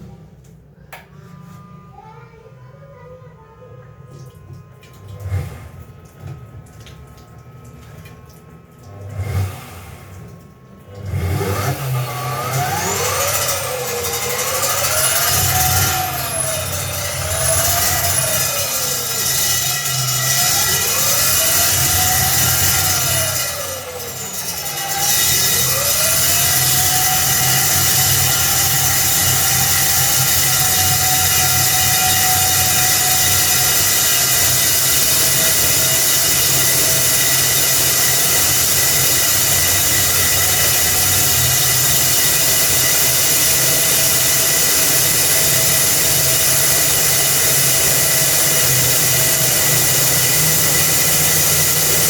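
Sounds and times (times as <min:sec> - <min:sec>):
core drill motor whine: 0:00.8 - 0:52.0.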